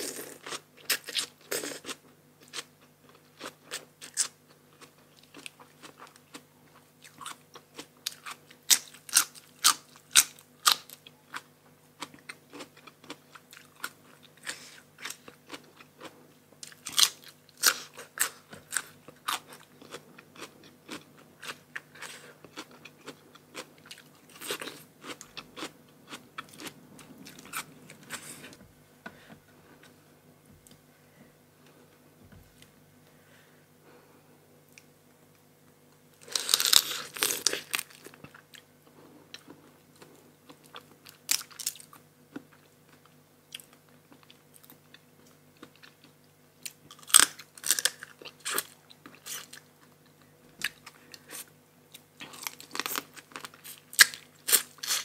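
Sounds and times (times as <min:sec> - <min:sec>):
person crunching and chewing food: 0:00.0 - 0:28.6, 0:36.2 - 0:55.0.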